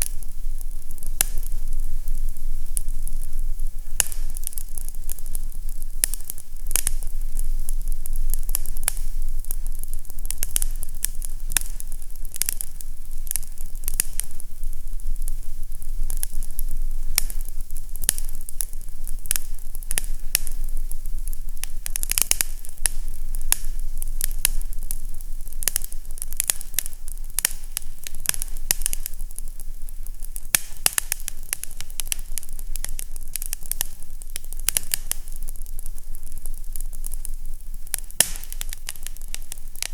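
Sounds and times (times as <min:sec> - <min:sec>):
fire crackling and popping: 0:00.0 - 0:39.9
low steady hum: 0:00.0 - 0:39.9.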